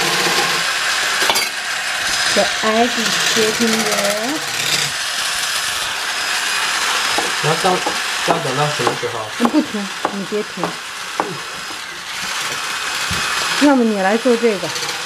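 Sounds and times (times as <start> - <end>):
electric whisk whirring: 0.0 - 15.0.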